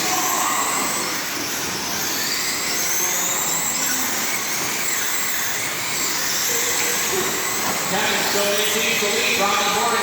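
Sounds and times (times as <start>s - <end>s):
remote control cars motor whine: 0.0s - 10.0s.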